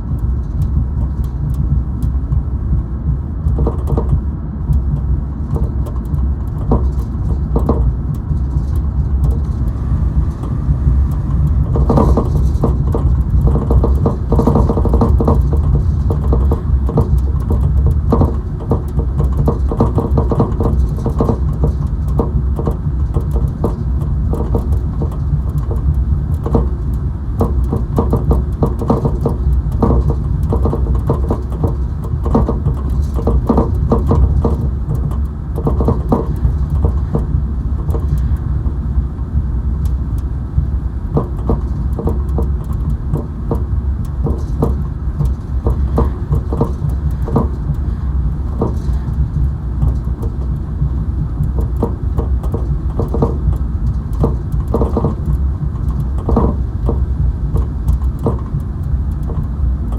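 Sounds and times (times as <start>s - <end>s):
car cabin road rumble: 0.0s - 59.9s
rattles and knocks: 0.0s - 59.9s.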